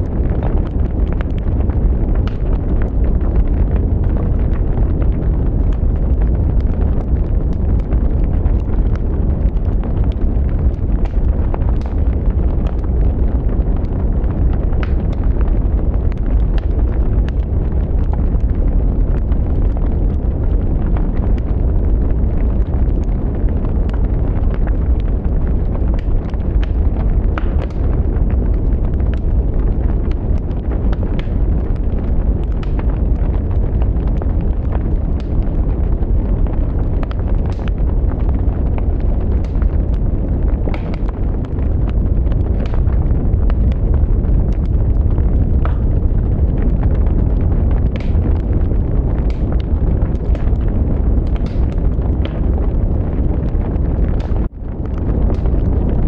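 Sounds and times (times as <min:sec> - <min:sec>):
burning wood crackling and popping: 0:00.0 - 0:56.0
low rumble of flames: 0:00.0 - 0:56.0.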